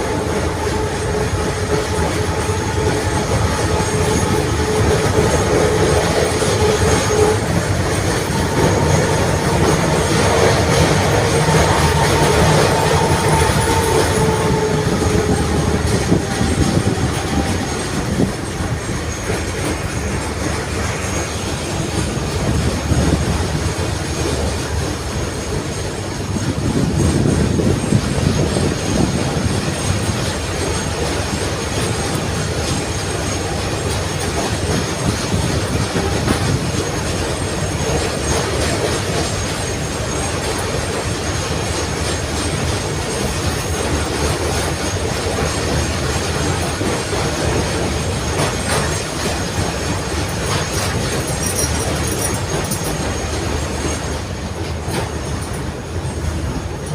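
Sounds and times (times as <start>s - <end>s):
tram wheels rumbling on rails: 0.0s - 56.9s.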